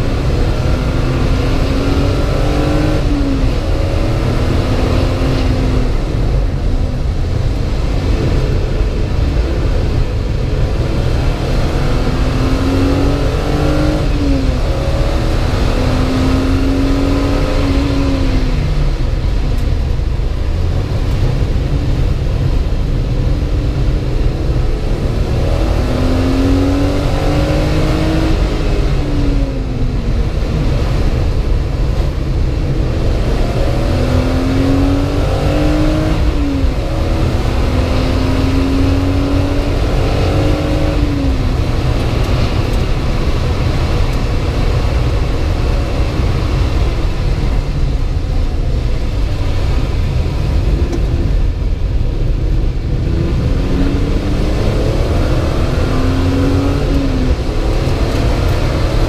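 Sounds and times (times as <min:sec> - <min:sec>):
car engine accelerating: 0:00.0 - 0:59.0
road and tyre rumble: 0:00.0 - 0:59.0.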